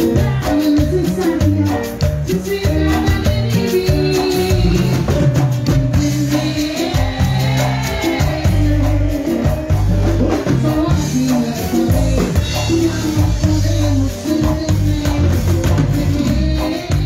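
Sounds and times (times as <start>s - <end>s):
bass notes: 0.0s - 17.0s
keyboard melody: 0.0s - 17.0s
steady percussion: 0.0s - 17.0s.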